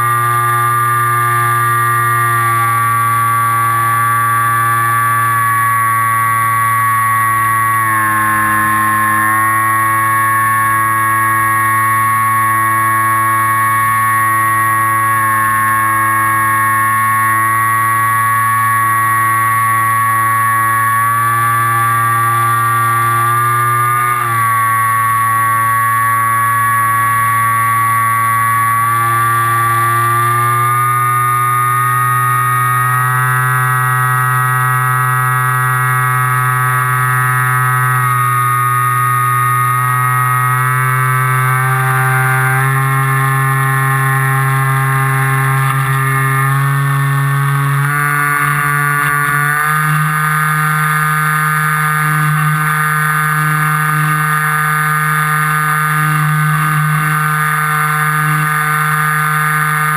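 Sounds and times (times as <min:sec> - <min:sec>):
model aircraft motor droning: 0:00.0 - 0:59.9.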